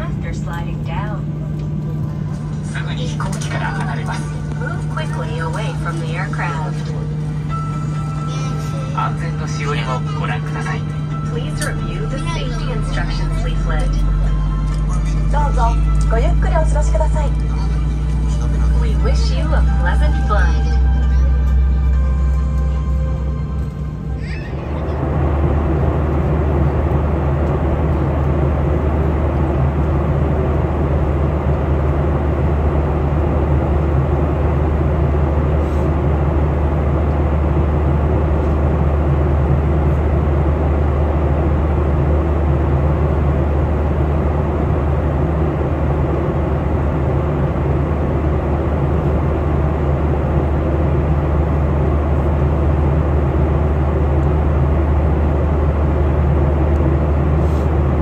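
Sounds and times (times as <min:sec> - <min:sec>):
airliner cabin engine and airflow noise: 0:00.0 - 0:58.0.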